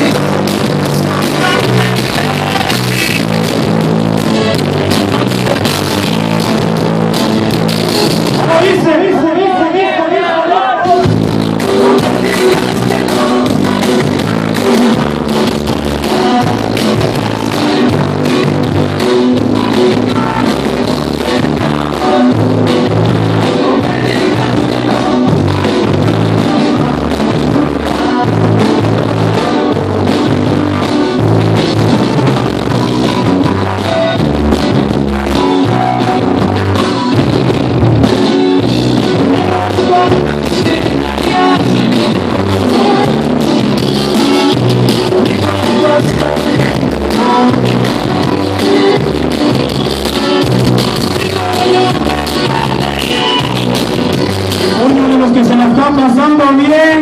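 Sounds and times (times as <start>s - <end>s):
loud dance music: 0.0s - 57.0s.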